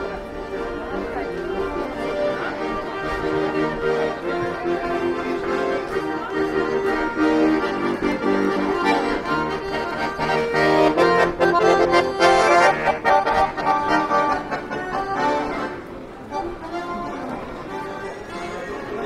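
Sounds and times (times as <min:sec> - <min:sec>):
instrumental music: 0:00.0 - 0:19.0.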